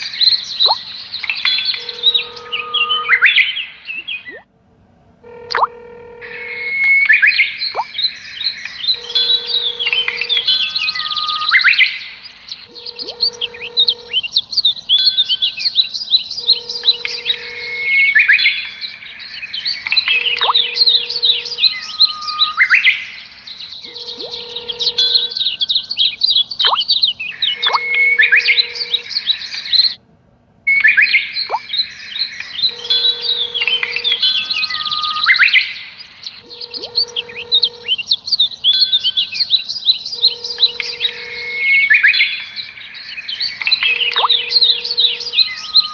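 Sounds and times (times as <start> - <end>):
bird chirps and whistles: 0.0 - 4.4, 6.4 - 30.0, 30.7 - 45.9.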